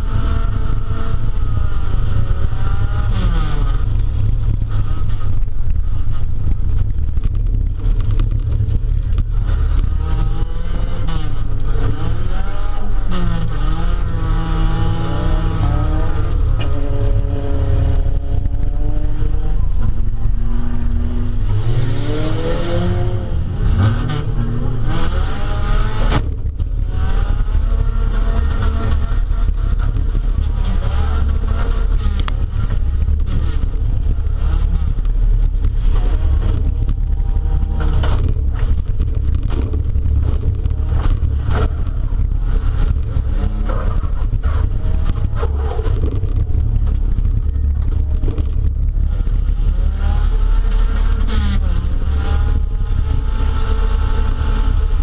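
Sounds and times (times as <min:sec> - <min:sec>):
car engine revving: 0:00.0 - 0:55.0
low engine rumble: 0:00.0 - 0:55.0.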